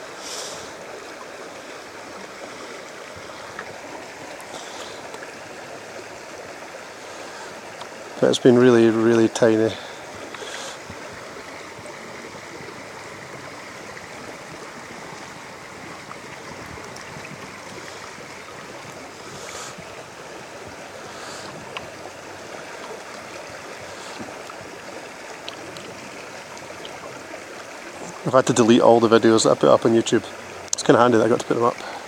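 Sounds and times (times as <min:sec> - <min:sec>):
river water running: 0:00.0 - 0:32.0.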